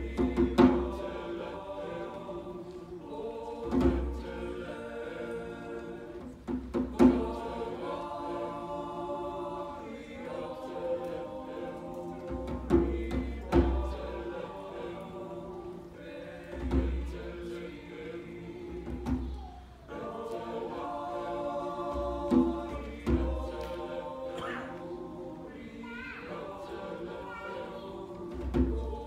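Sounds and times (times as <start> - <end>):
choir singing sustained chords: 0.0 - 29.0.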